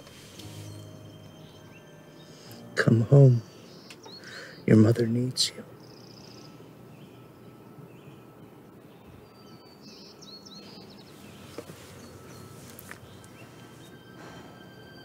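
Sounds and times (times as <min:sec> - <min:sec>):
small birds chirping: 0:00.0 - 0:14.2
outdoor background noise: 0:00.0 - 0:15.0.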